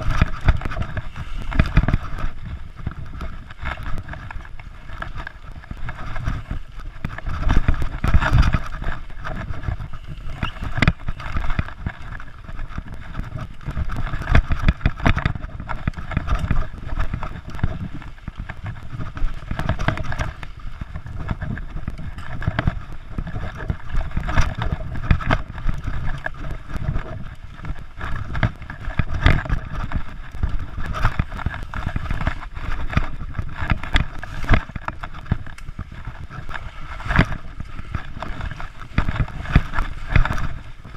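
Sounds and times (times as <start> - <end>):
bike rattling and knocking: 0.0 - 40.9.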